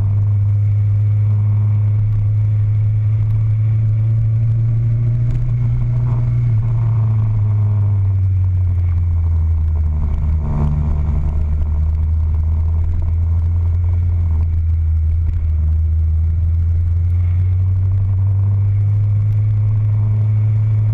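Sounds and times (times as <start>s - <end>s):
motorcycle engine and road drone: 0.0s - 20.9s.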